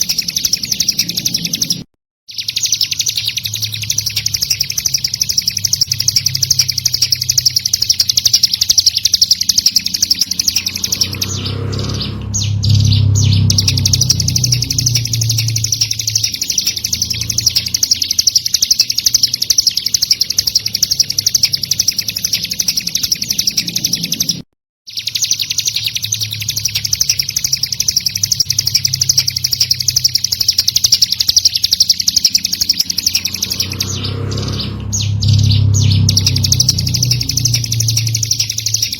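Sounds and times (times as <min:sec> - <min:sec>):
bird chirping rapidly: 0:00.0 - 0:38.9
low hum: 0:03.2 - 0:24.4, 0:26.3 - 0:38.9.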